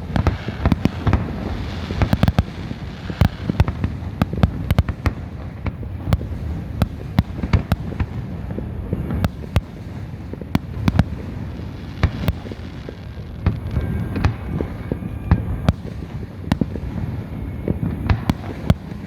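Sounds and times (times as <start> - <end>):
fireworks bangs and cracks: 0.0 - 19.0
rumble of distant fireworks: 0.0 - 19.0.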